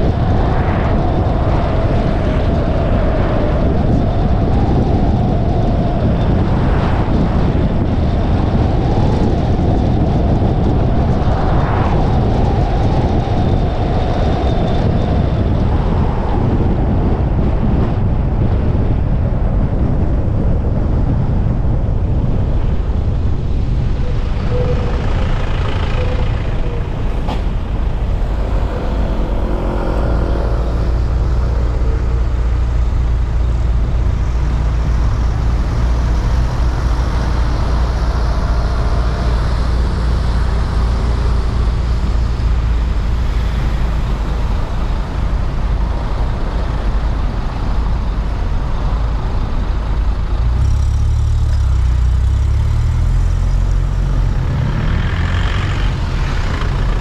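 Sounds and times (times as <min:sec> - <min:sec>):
traffic passing: 0:00.0 - 0:19.0, 0:21.8 - 0:57.0
car engine rumble: 0:00.0 - 0:57.0
road noise: 0:00.0 - 0:57.0.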